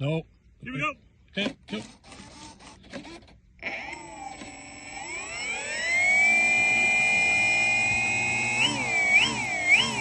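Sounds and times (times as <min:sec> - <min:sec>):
model plane motor whine: 0:01.8 - 0:10.0.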